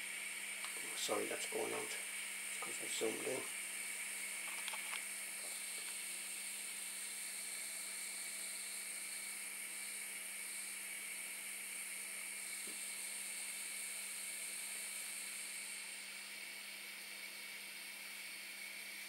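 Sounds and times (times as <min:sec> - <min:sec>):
gas burner hissing: 0:00.0 - 0:19.0.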